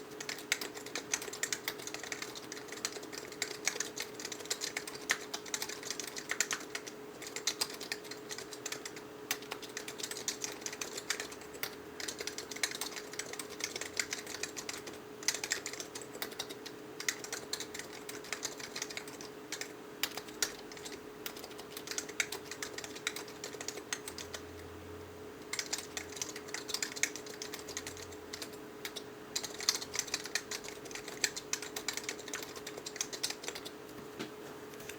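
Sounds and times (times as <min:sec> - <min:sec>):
faint steady hum: 0:00.0 - 0:34.9
typing on mechanical keyboard: 0:00.2 - 0:24.5, 0:25.5 - 0:33.8.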